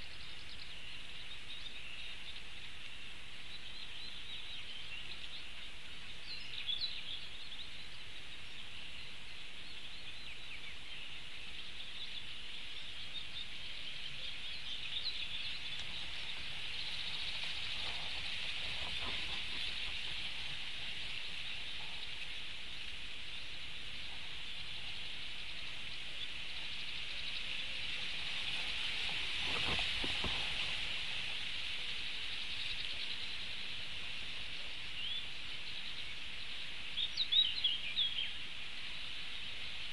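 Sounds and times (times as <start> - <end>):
faint bird chirps: 0.0 - 39.9
high-pitched hiss: 0.0 - 39.9.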